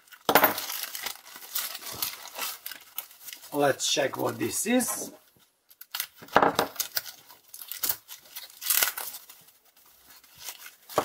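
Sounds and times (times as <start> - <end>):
foam sheet rustling and tearing: 0.0 - 4.8, 5.7 - 11.0.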